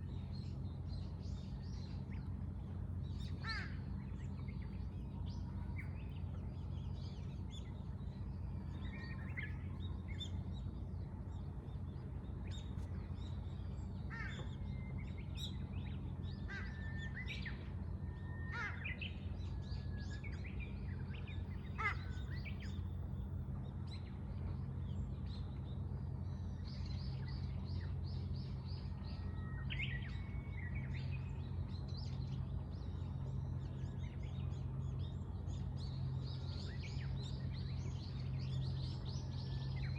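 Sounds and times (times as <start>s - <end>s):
birds chirping and twittering: 0.0s - 39.9s
steady low rumble: 0.0s - 39.9s.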